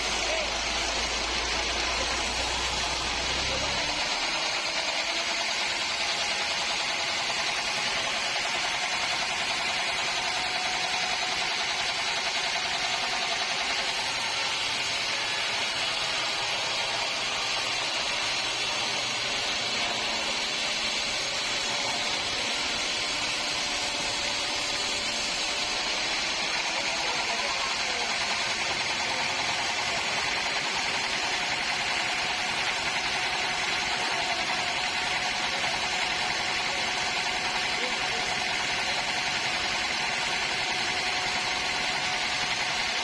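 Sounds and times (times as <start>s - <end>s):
machinery running: 0.0s - 43.0s
saw cutting wood: 0.0s - 43.0s.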